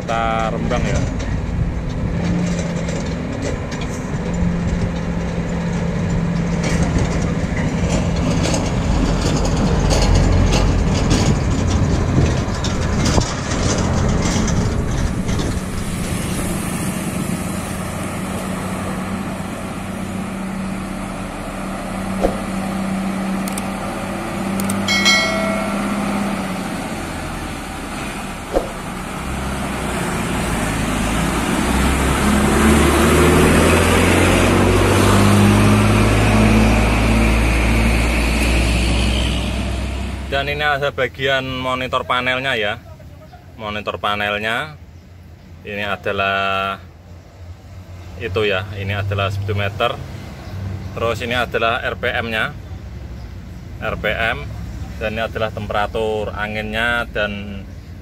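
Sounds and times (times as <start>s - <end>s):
diesel truck engines running: 0.0s - 58.0s.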